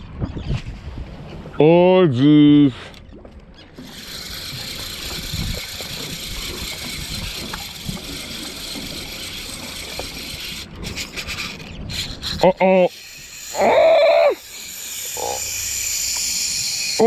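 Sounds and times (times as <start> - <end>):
outboard motor running: 3.0 - 17.0.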